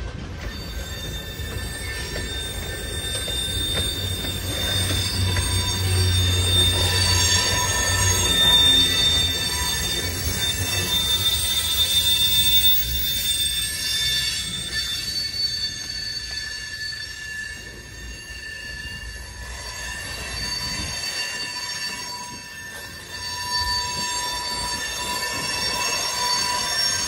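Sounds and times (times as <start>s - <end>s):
freight train rumble: 0.0s - 27.0s
train wheels squealing on rails: 0.0s - 27.0s.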